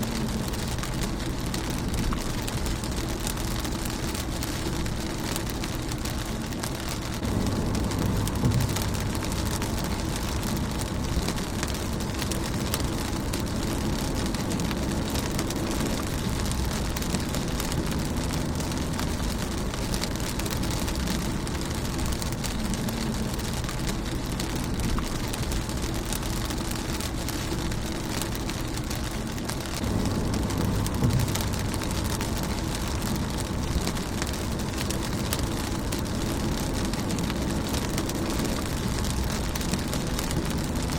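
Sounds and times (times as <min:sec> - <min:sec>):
low rumble: 0:00.0 - 0:40.9
rain on car windshield: 0:00.0 - 0:40.9.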